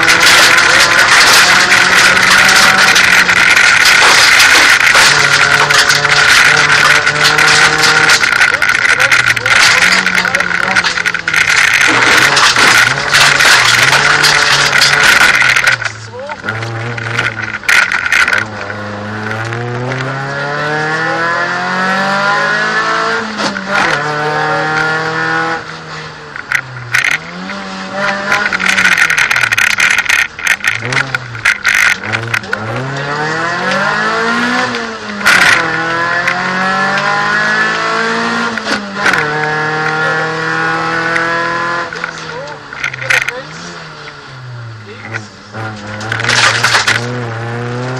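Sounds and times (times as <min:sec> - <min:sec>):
sharp loud clatter: 0:00.0 - 0:44.3, 0:44.9 - 0:47.9
car engine revving: 0:00.0 - 0:47.9.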